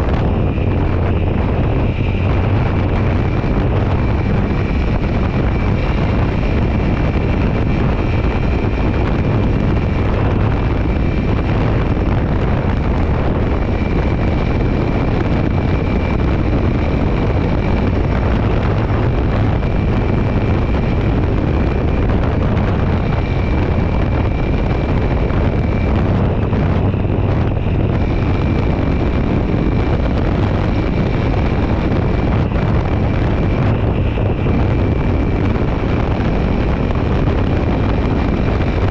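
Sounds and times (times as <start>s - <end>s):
dirt bike engine running: 0.0s - 38.9s
wind noise on microphone: 0.0s - 38.9s.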